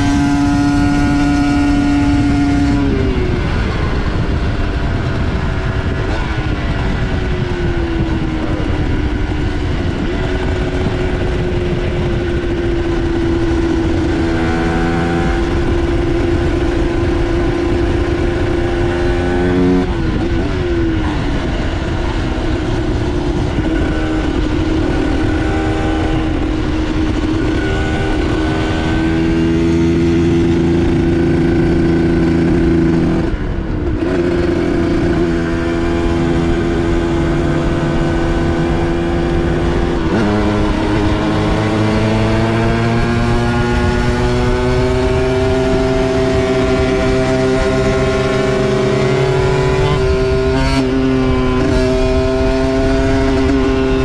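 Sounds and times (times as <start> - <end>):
two-stroke motorcycle engine running: 0.0 - 54.0.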